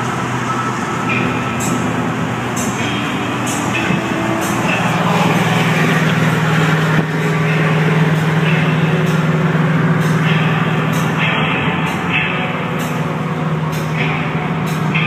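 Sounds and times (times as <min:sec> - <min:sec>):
engine and tyres droning: 0:00.0 - 0:15.0.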